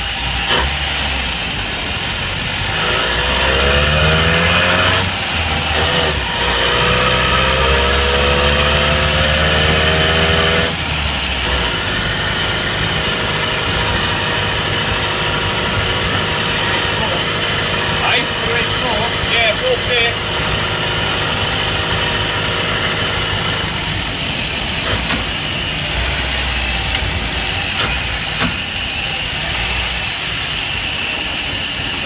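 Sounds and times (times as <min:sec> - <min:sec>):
engine whine rising: 0:00.0 - 0:32.0
van engine running under load: 0:00.0 - 0:32.0.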